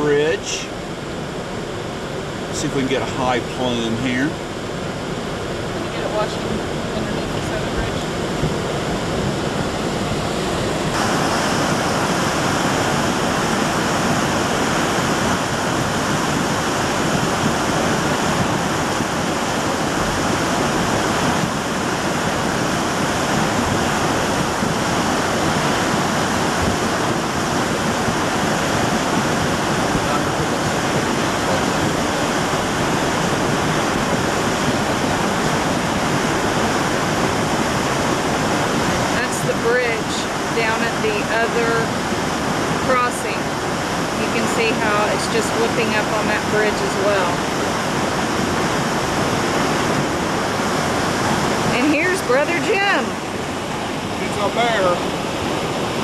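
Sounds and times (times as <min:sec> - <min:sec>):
floodwater rushing under bridge: 0:00.0 - 0:56.0.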